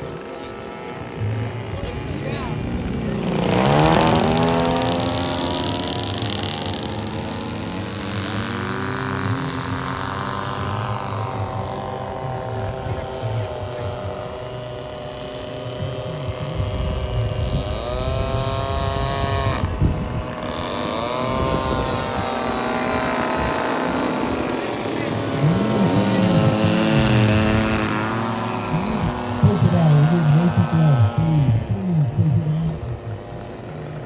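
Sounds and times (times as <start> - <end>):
model airplane engines flying by: 0.0 - 34.0.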